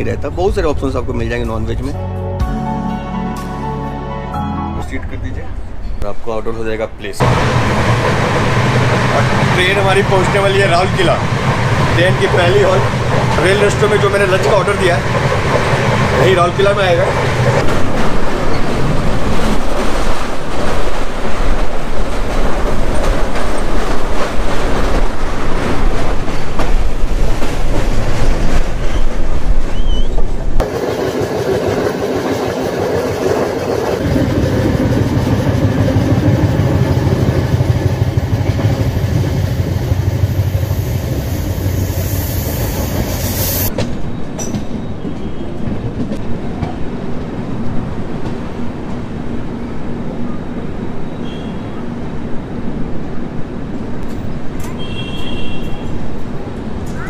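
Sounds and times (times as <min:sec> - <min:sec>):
passenger train running: 0:02.6 - 0:57.0.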